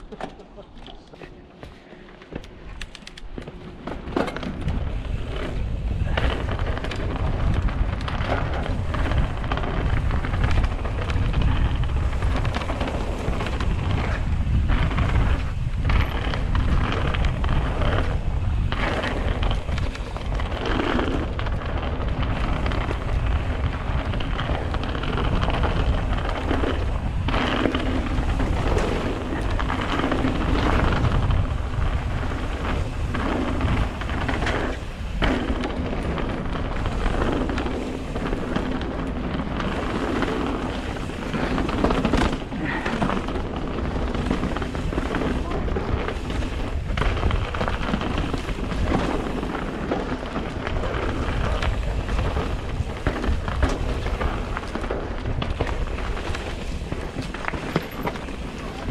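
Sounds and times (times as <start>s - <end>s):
wind rumble on microphone: 2.3s - 58.9s
bike clattering over bumps: 3.2s - 58.9s
tyres crunching on gravel: 6.0s - 58.9s.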